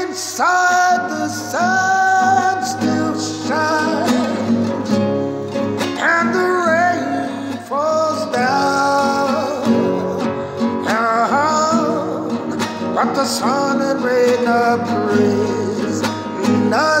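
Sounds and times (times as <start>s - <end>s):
man singing a slow song: 0.0s - 17.0s
nylon-string guitar: 0.0s - 17.0s.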